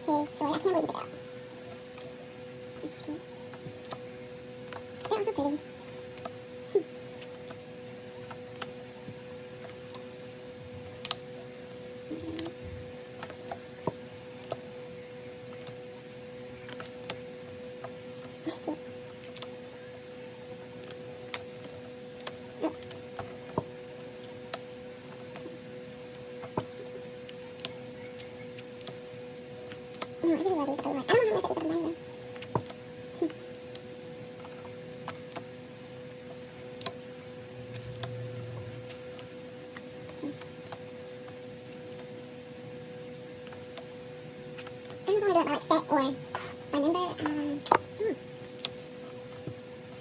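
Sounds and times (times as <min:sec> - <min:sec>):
faint hum: 0:00.0 - 0:50.0.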